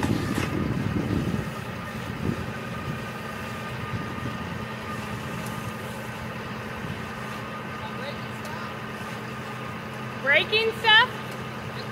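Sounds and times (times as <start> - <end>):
thin steady whine: 0.0 - 11.9
tractor diesel engine running: 0.0 - 11.9.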